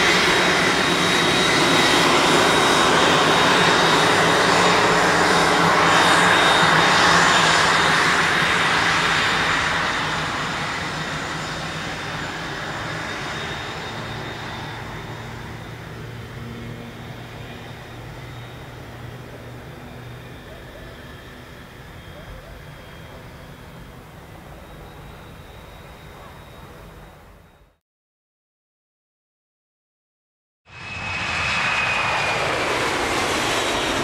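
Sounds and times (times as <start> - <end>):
jet engines whining: 0.0 - 27.8, 30.7 - 34.0.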